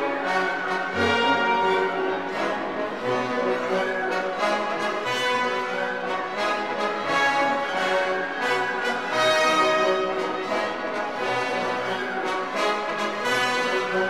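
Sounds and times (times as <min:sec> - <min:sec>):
orchestral music with brass: 0:00.0 - 0:14.0.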